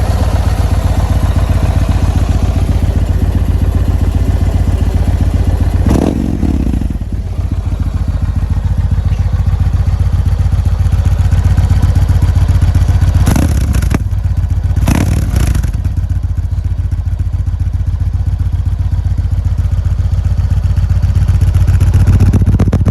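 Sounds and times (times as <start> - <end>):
engine running: 0.0 - 22.9.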